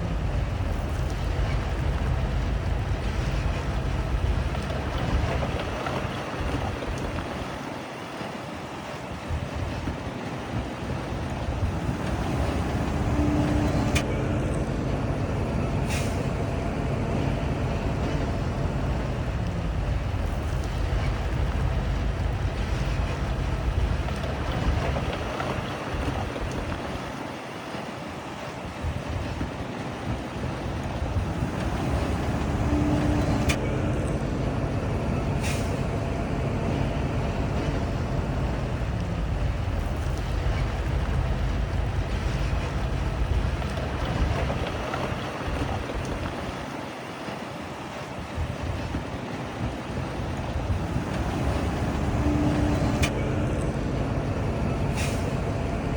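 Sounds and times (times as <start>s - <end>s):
diesel machinery engine rumble: 0.0s - 55.9s.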